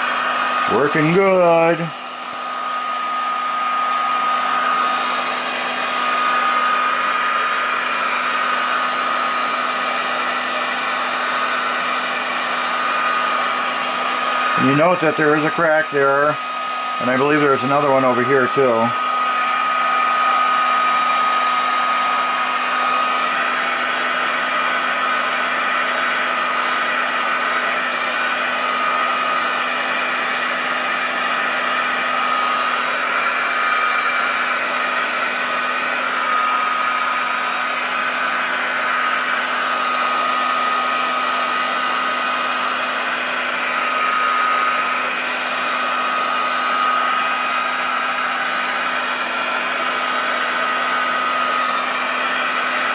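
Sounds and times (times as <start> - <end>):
heat gun blowing hot air: 0.0 - 52.9.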